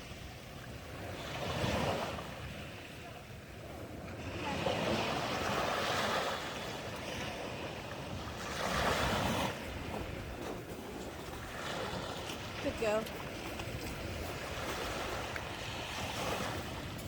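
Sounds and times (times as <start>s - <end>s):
waves washing onto shore: 0.0s - 17.0s.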